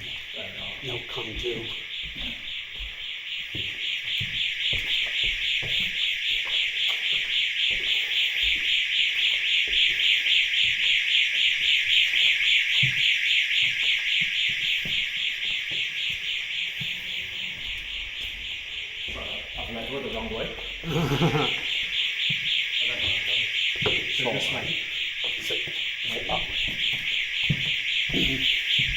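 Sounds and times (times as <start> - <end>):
alarm pulsing high-pitched tone: 0.0 - 28.9.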